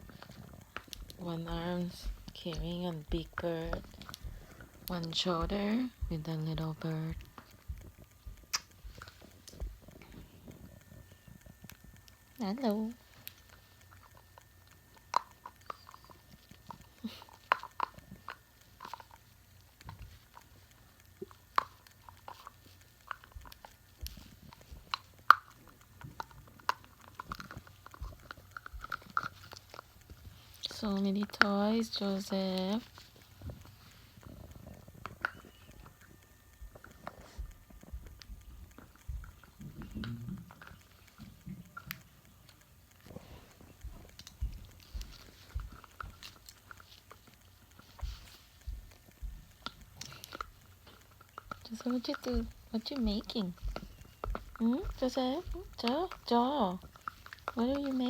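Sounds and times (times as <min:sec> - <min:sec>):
bird beak crunching clicks: 0:05.9 - 0:58.0.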